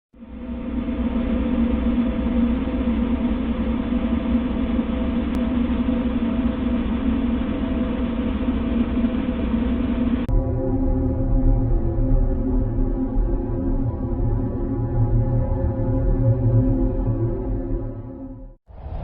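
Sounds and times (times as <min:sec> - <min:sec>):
dense rumbling drone: 0:00.1 - 0:19.0
tonal drone: 0:00.2 - 0:19.0.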